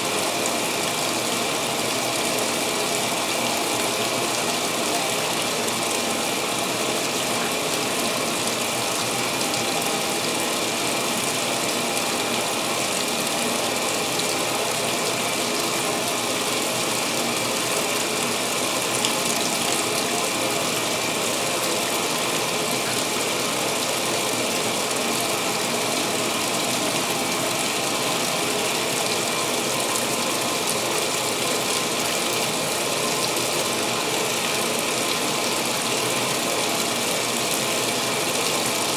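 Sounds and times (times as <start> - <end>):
water pouring into washer tub: 0.0 - 38.9.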